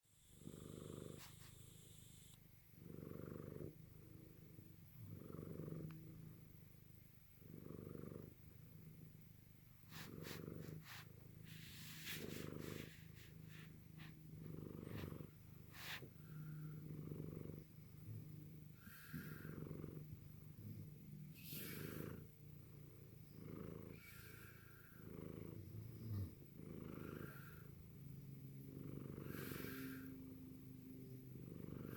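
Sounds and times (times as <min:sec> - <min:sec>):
pet snoring: 0:00.3 - 0:06.4, 0:07.4 - 0:08.9, 0:09.8 - 0:31.9.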